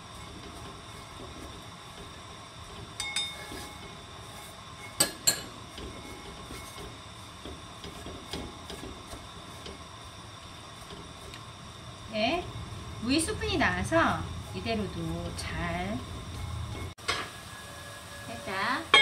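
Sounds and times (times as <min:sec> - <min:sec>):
food stir-frying in a pot: 0:00.0 - 0:19.0.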